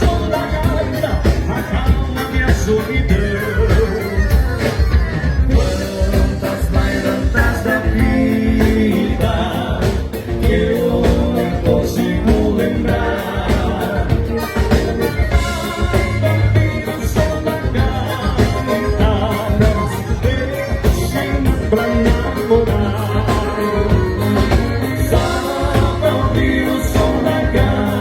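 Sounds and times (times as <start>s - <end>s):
live dance band music: 0.0s - 28.0s.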